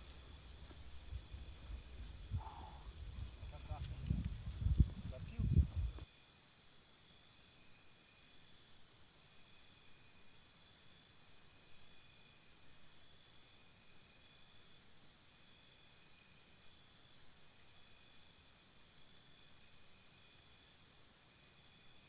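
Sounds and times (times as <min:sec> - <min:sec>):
crickets chirping: 0:00.0 - 0:22.0
faint high insect chirps: 0:00.0 - 0:22.0.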